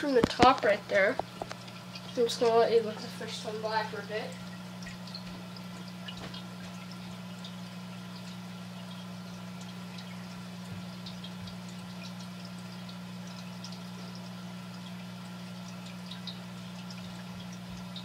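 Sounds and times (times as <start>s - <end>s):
aquarium filter humming: 0.0s - 18.0s
water trickling and dripping: 0.0s - 18.0s.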